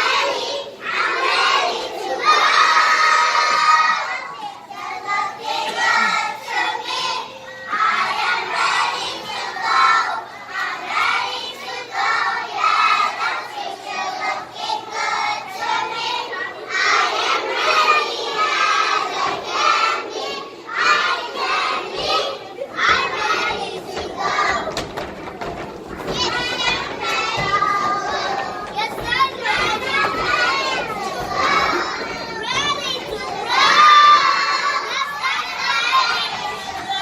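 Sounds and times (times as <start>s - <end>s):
children singing and shouting: 0.0s - 37.0s.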